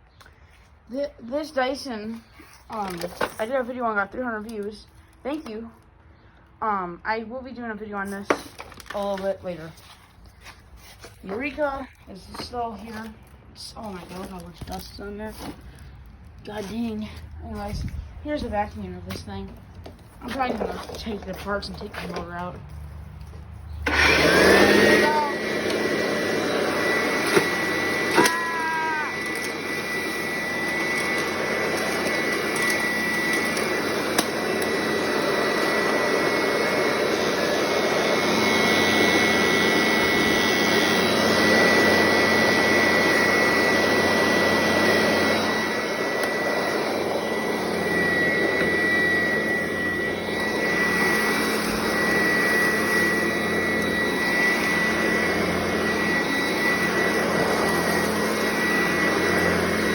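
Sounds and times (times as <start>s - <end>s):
vacuum cleaner running: 8.0s - 15.8s, 16.4s - 59.9s.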